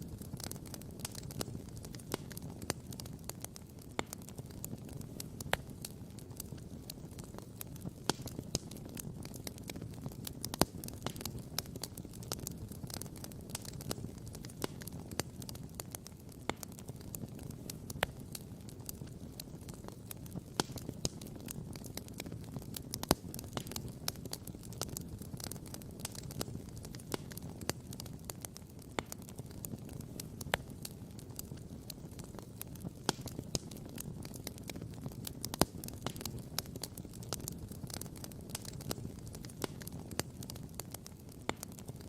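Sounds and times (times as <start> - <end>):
campfire crackling and popping: 0.0 - 42.0
low fire rumble: 0.0 - 42.0.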